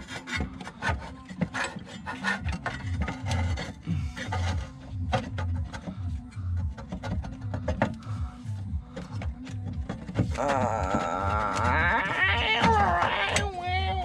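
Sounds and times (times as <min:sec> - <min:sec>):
plastic hose rubbing and clicking: 0:00.0 - 0:14.0.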